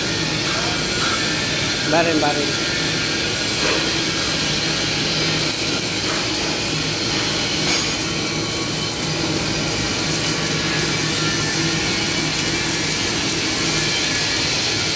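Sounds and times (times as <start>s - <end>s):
welding arc hissing: 0.0s - 14.9s.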